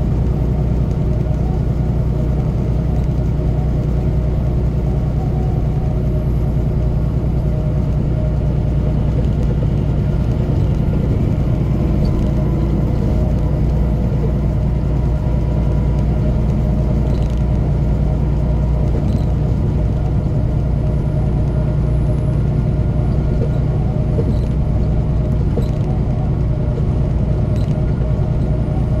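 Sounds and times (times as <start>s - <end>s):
road and tyre noise: 0.0s - 29.0s
truck engine drone: 0.0s - 29.0s.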